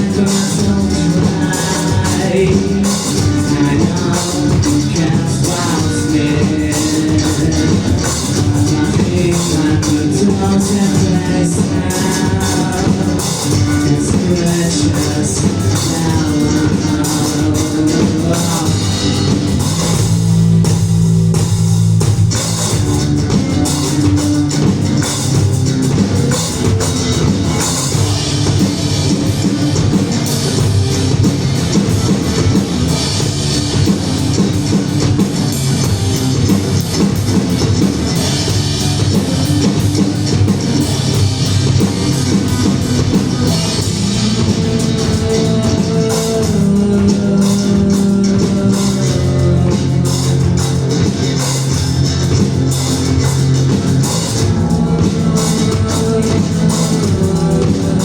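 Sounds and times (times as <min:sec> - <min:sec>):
drum kit beat: 0:00.0 - 0:58.0
electric guitar: 0:00.0 - 0:58.0.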